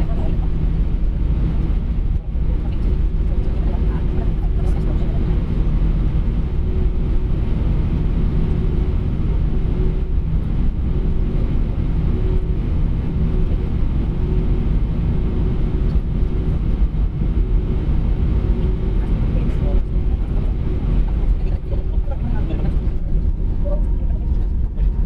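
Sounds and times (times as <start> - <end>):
aircraft engines rumbling at idle: 0.0 - 25.0.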